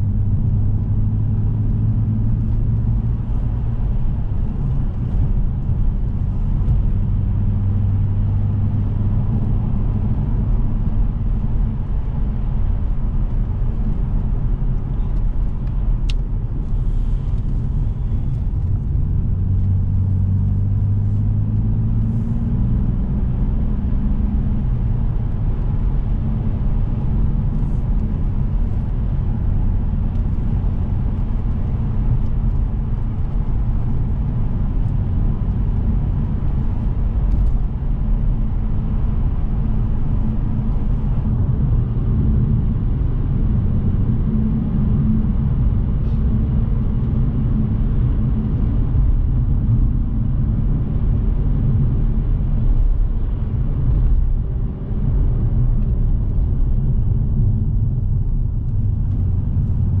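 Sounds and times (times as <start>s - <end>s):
car engine and road noise: 0.0s - 60.0s.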